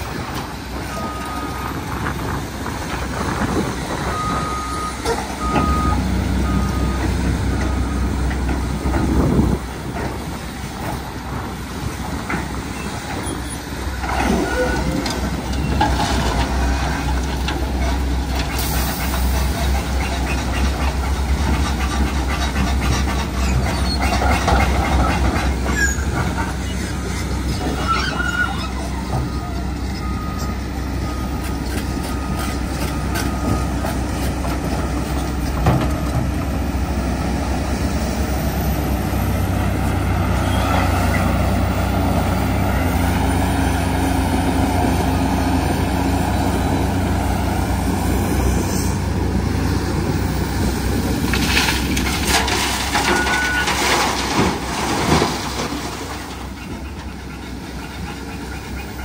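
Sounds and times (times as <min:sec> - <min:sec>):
excavator diesel engine running: 0:00.0 - 0:59.0
heavy diesel machines: 0:00.0 - 0:59.0.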